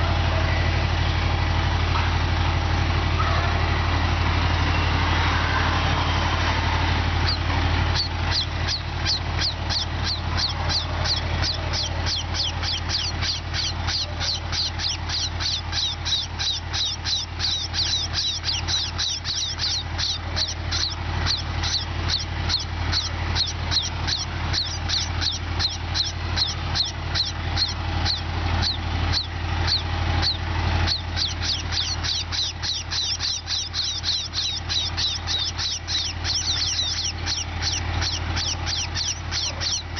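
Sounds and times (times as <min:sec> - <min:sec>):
steady low hum: 0:00.0 - 0:39.9
sparrows chirping: 0:07.2 - 0:39.9.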